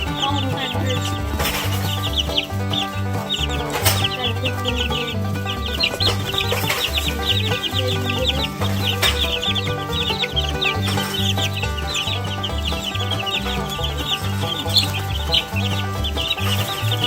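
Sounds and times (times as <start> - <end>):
chicks peeping: 0.0 - 17.0
music with plodding bass line: 0.0 - 17.0.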